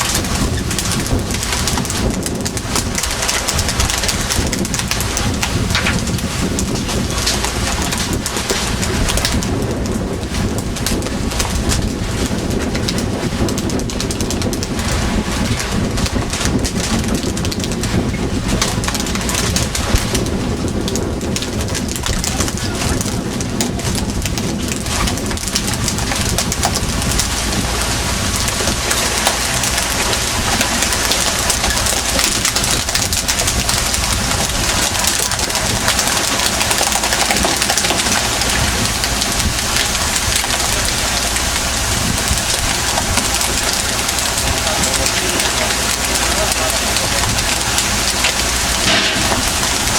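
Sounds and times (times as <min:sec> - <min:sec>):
boat engine drone: 0:00.0 - 0:49.9
rushing water: 0:00.0 - 0:49.9
wind noise: 0:00.0 - 0:49.9.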